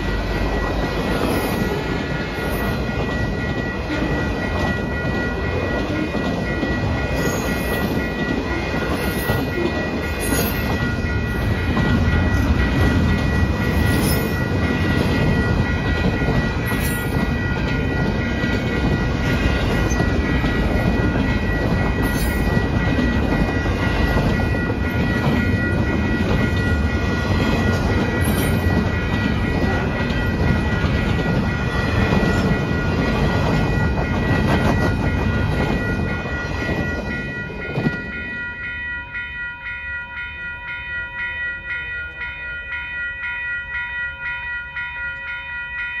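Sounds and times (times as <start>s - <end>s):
crossing bell ringing: 0.0s - 46.0s
freight train wheels on rail: 0.0s - 46.0s.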